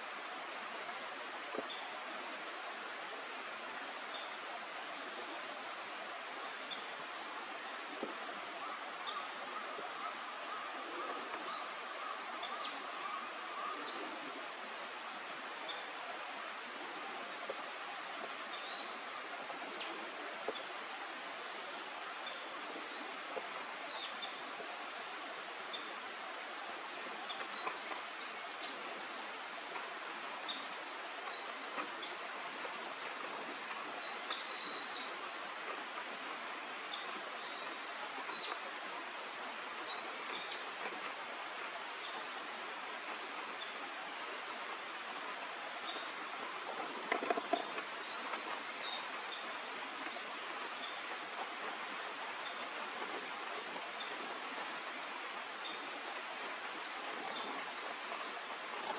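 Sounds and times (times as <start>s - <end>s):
insects chirring: 0.0s - 58.9s.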